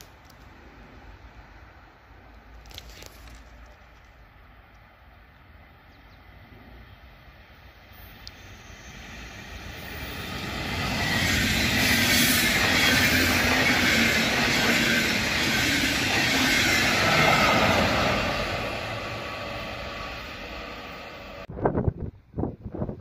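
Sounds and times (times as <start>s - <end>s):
passenger train passing: 0.0s - 2.6s, 3.5s - 21.7s.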